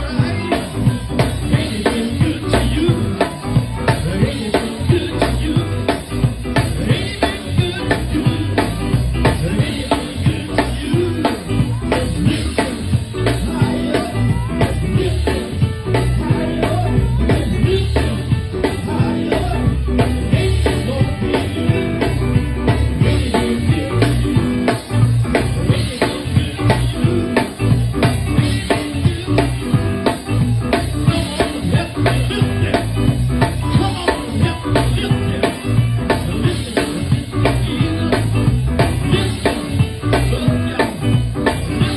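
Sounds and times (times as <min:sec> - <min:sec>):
drum kit beat: 0:00.0 - 0:41.9
heavy bass line: 0:00.0 - 0:41.9
keyboard: 0:00.0 - 0:41.9.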